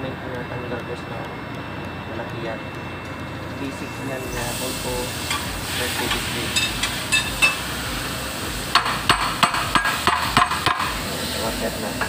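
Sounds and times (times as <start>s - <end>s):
hammer blows: 0.0s - 12.0s
workshop noise: 0.0s - 12.0s.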